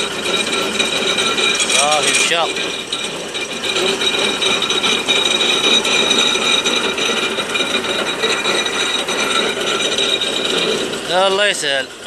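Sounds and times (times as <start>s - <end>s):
drilling rig machinery clattering: 0.0s - 12.0s
steady high whine: 0.0s - 12.0s.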